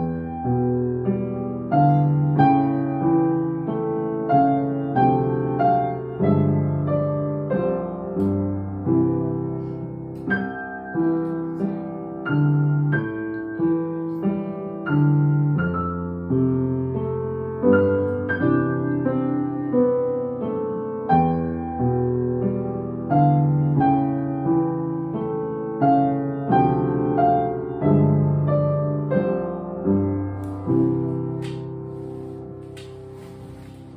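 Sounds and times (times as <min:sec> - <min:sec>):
piano duet: 0:00.0 - 0:33.9.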